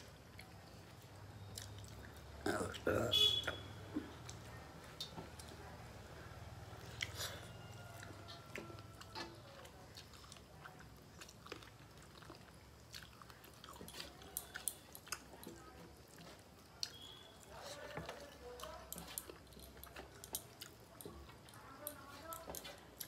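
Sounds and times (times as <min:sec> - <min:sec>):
people chewing: 0:00.0 - 0:23.0.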